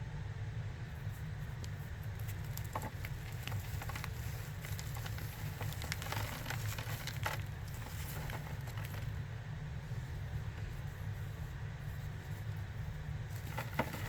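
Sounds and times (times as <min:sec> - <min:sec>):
powder crunchies being crunched: 0:01.6 - 0:09.2, 0:10.2 - 0:14.0.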